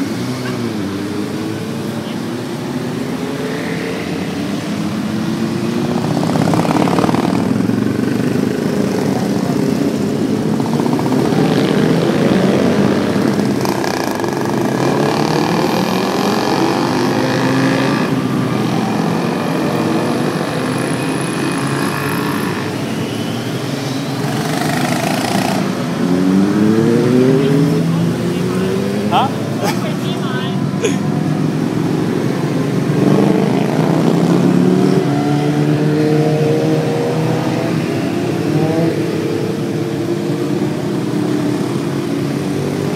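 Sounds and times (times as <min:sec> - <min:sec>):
motorcycles revving past: 0:00.0 - 0:42.9.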